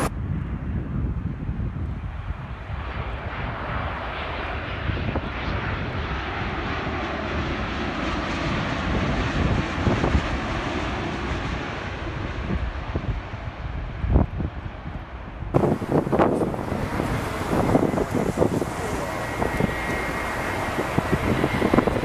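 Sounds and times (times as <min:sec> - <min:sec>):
jet airliner passing overhead: 0:00.0 - 0:22.0.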